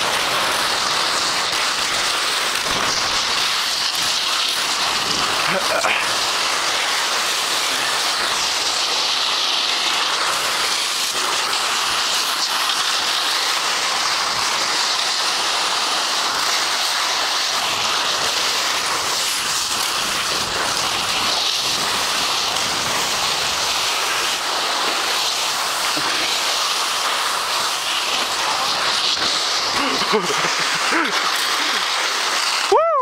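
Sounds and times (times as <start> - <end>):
skis sliding over snow: 0.0 - 33.0.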